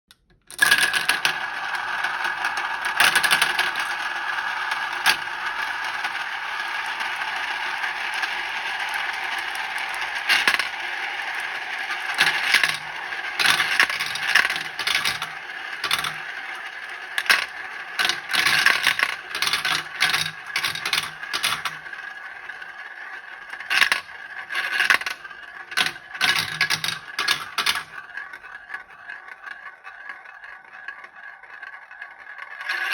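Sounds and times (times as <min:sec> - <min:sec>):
beads rolling down xylophone run: 0:00.6 - 0:32.9.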